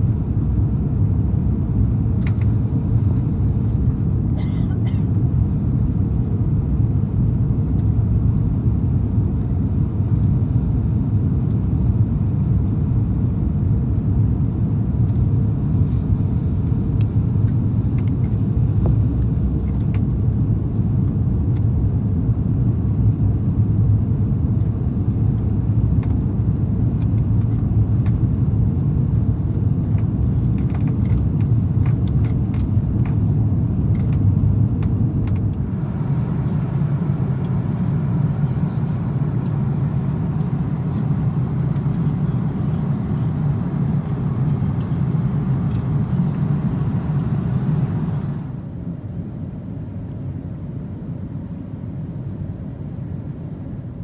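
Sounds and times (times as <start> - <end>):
engine and airflow roar: 0.0 - 54.0.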